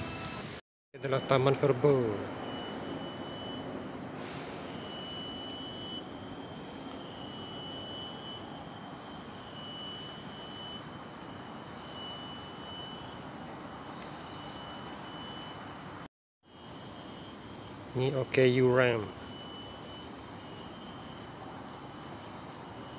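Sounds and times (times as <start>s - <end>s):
insects whining: 0.0s - 22.9s.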